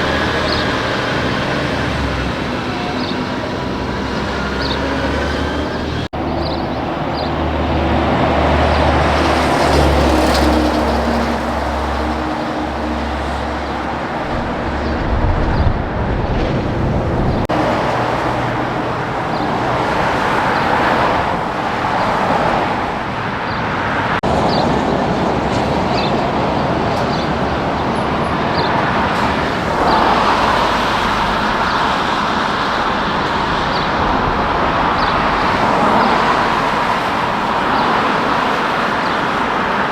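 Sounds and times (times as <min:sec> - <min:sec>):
diesel engine drone: 0:00.0 - 0:23.2, 0:24.2 - 0:39.9
tyre and road noise: 0:00.0 - 0:39.9.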